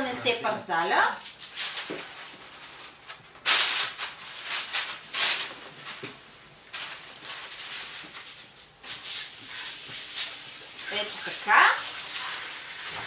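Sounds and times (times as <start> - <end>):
baking paper rustling and crinkling: 1.0 - 13.0.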